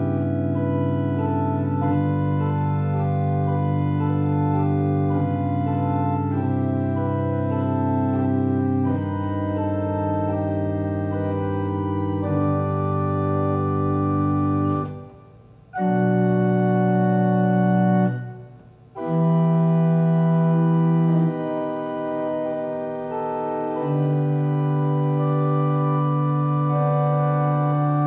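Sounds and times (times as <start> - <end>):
pipe organ playing chords: 0.0 - 28.0.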